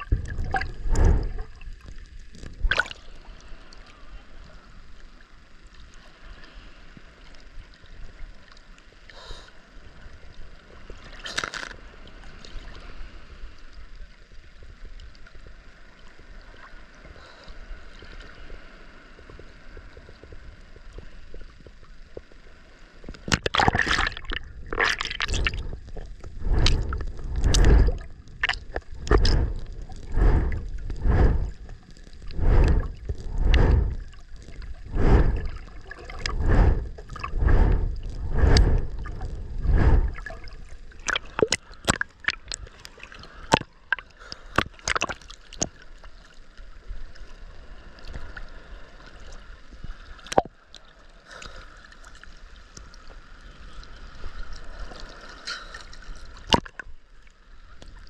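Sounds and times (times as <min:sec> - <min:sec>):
water gurgling and sloshing: 0:00.0 - 0:09.1, 0:09.8 - 0:58.0.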